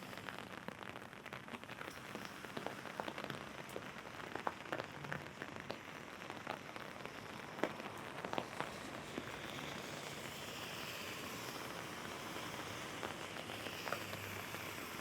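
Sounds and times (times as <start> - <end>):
rain pattering on an umbrella: 0.0 - 15.0.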